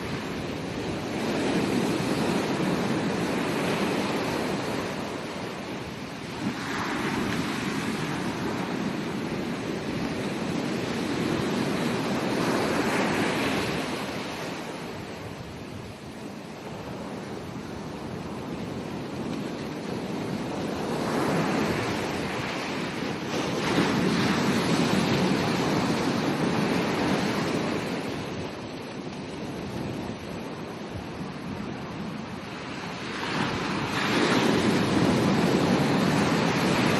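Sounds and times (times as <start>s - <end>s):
ocean waves breaking on beach: 0.0s - 36.9s
wind: 0.0s - 36.9s.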